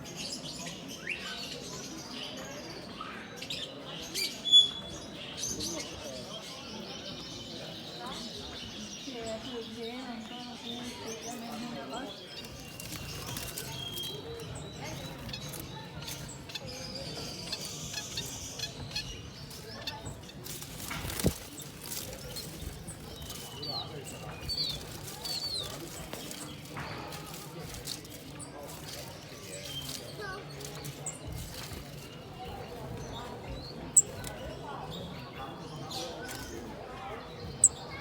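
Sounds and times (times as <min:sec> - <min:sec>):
cage birds chirping: 0:00.0 - 0:38.0.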